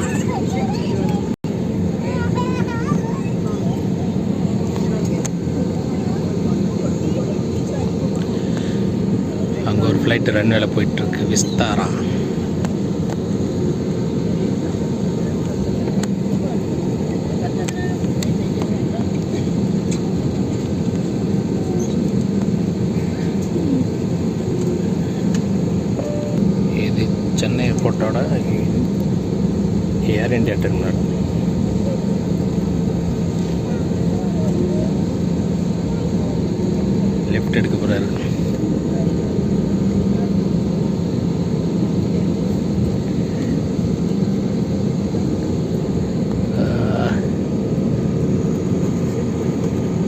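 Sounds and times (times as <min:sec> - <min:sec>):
airliner taxiing rumble: 0:00.0 - 0:50.0.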